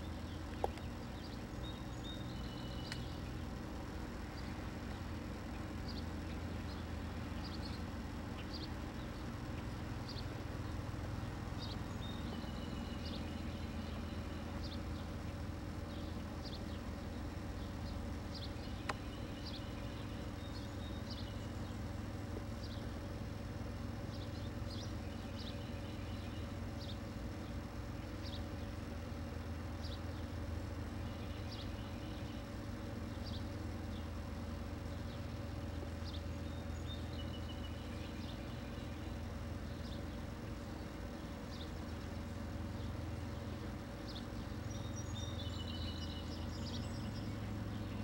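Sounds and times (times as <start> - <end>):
birds chirping: 0.0 - 48.0
steady low hum: 0.0 - 48.0.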